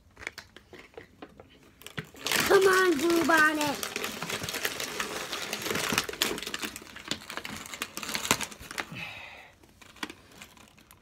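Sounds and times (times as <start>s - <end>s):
plastic packaging clicks and crinkles: 0.0s - 11.0s.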